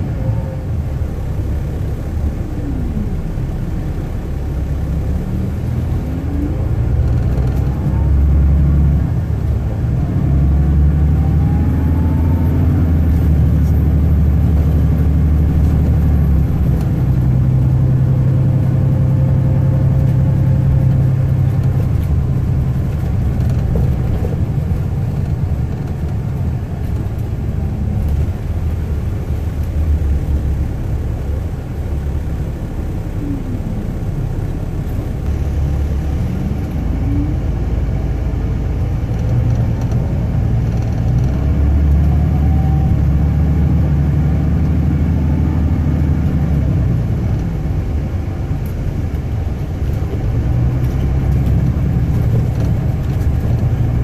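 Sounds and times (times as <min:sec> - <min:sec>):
coach diesel engine drone: 0:00.0 - 0:54.0
road rumble: 0:00.0 - 0:54.0.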